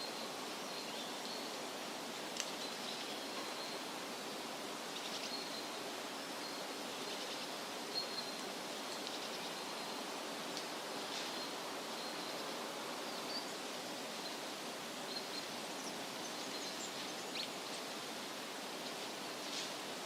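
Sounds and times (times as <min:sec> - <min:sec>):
wind rustling leafy trees: 0:00.0 - 0:20.0.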